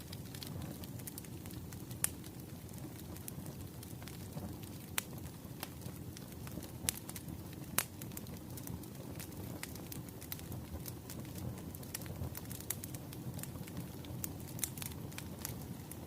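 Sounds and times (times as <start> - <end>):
bonfire rumble: 0.0 - 16.0
burning wood crackling and popping: 0.0 - 16.0.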